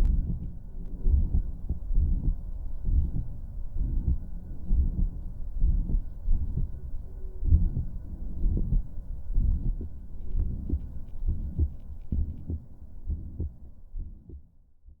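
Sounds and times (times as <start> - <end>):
heartbeat through a stethoscope: 0.0 - 15.0.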